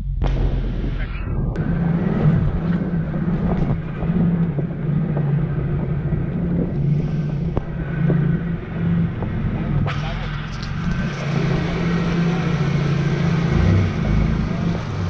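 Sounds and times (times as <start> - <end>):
off-road vehicle engine humming: 0.0 - 15.0.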